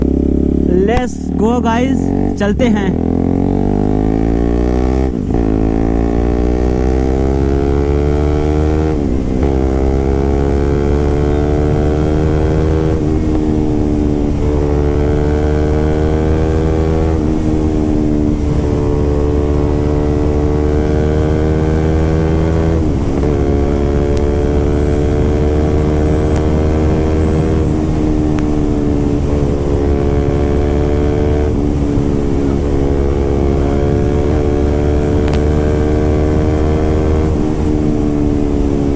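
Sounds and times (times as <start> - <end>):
motorcycle engine changing gear: 0.0 - 38.9.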